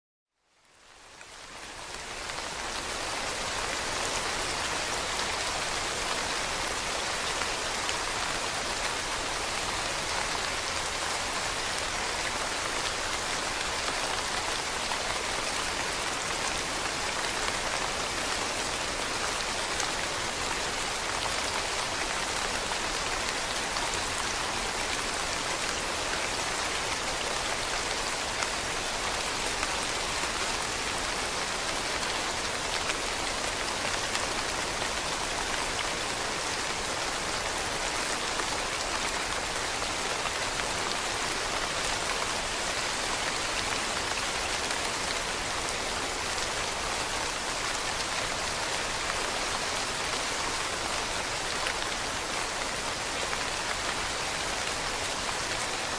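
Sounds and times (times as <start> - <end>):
rain falling on leaves: 0.4 - 55.9.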